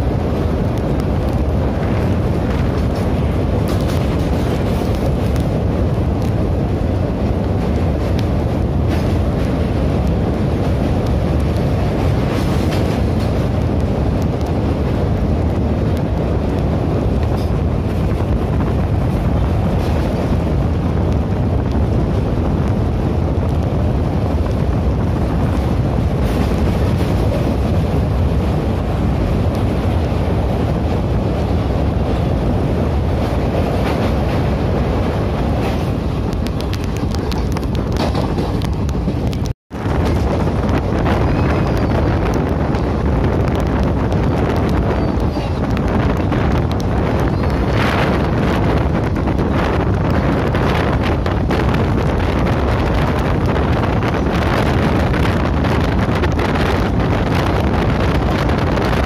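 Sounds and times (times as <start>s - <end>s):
moving train rumble: 0.0s - 59.0s
wind buffeting microphone: 0.0s - 59.0s.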